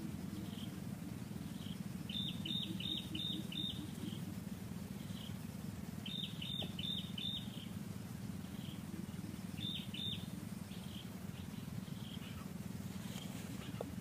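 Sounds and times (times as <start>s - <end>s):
low buzzing drone: 0.0s - 14.0s.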